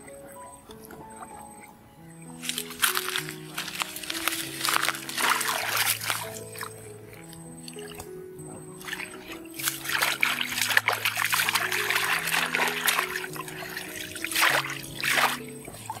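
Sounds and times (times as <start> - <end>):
background music: 0.0 - 16.0
muddy water splashing: 2.3 - 16.0.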